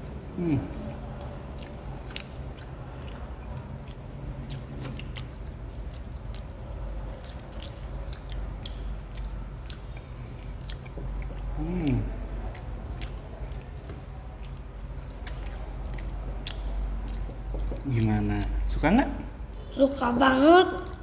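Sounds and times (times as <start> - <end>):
low steady hum: 0.0 - 21.0
people chewing fries: 0.0 - 21.0
mouth clicks and smacks: 0.8 - 18.6.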